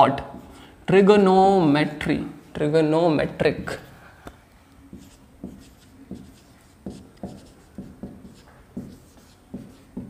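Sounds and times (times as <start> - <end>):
marker writing on whiteboard: 0.1 - 10.0.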